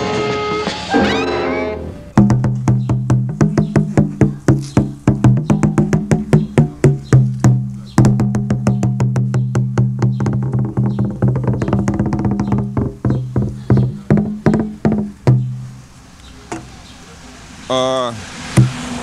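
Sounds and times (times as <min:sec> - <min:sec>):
pitched drums struck: 0:00.0 - 0:15.9, 0:18.6 - 0:19.0.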